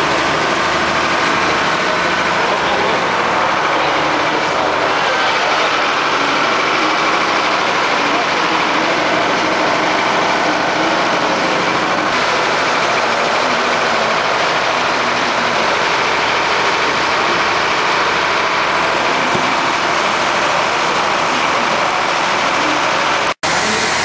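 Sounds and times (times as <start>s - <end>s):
fire engine running: 0.0s - 24.0s.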